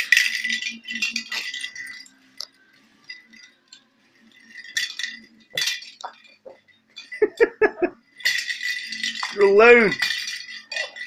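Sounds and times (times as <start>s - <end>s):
toy ball bell jingling: 0.0s - 11.0s.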